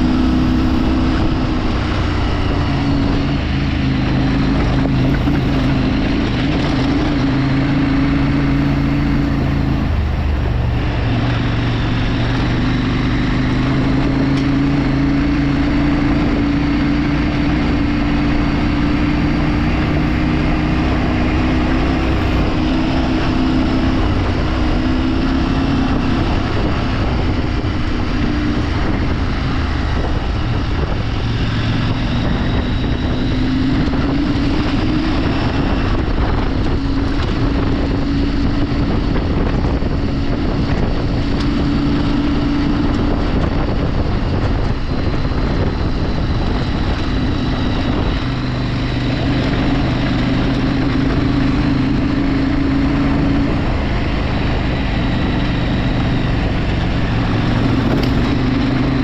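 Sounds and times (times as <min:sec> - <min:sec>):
vehicle engine running: 0:00.0 - 0:59.0
wind noise on microphone: 0:00.0 - 0:59.0.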